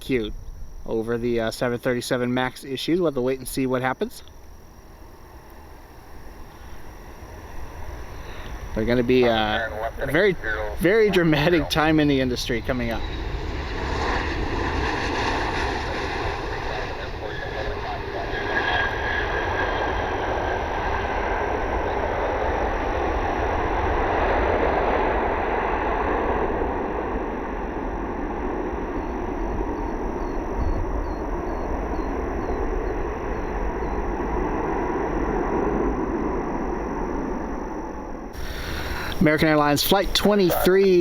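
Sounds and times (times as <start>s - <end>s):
jet airliner engines: 0.0s - 41.0s.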